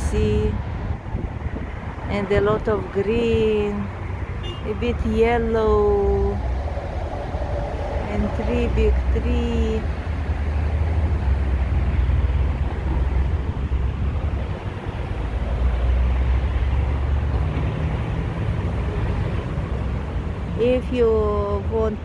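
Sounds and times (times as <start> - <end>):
deeper droning: 0.0 - 22.0
road traffic rumble: 0.0 - 22.0.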